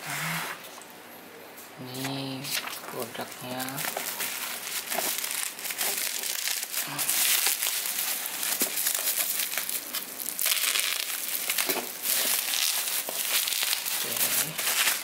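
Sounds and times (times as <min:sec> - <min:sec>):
bubble wrap crinkling: 0:02.1 - 0:15.0.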